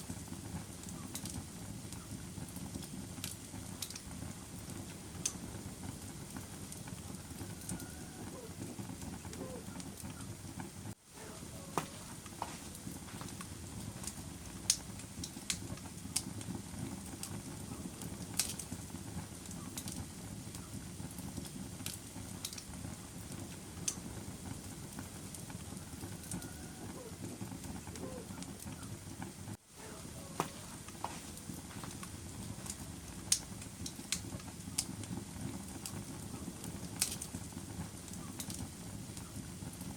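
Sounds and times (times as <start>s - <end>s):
fire crackles and pops: 0.0s - 39.9s
wood fire burning: 0.0s - 39.9s.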